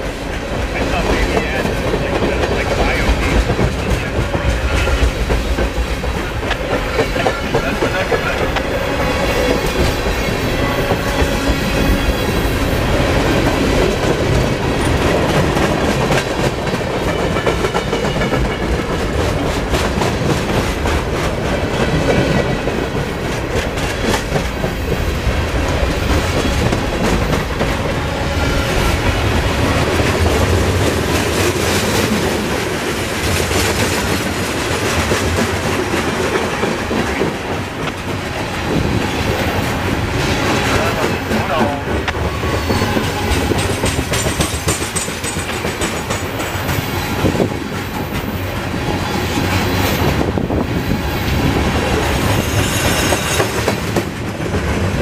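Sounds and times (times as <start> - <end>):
freight train wheels rumbling: 0.0 - 55.0
rapid clickety-clack: 0.4 - 50.7, 51.3 - 55.0.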